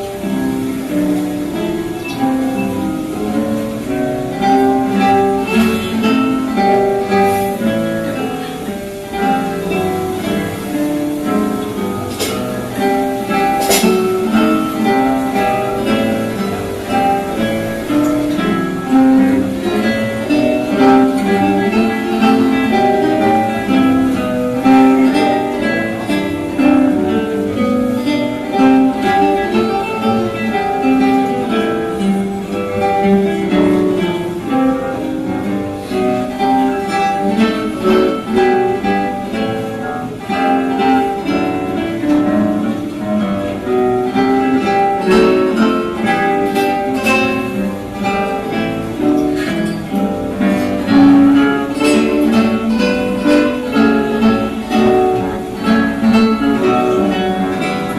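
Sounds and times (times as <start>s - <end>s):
classical guitars playing: 0.0s - 57.9s.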